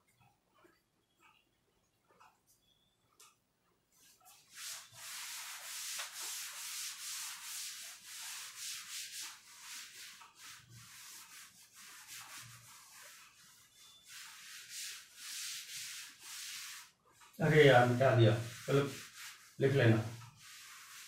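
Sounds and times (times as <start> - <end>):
cloth wiping chalkboard: 3.9 - 21.0.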